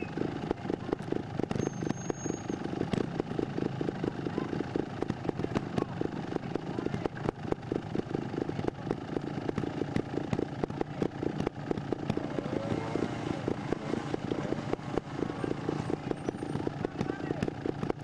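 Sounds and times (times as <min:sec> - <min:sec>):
motorcycle engine with throttle blips: 0:00.0 - 0:18.0.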